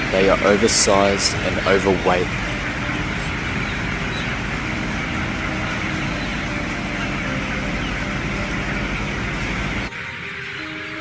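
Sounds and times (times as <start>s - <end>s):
chicken shed din: 0.0s - 11.0s.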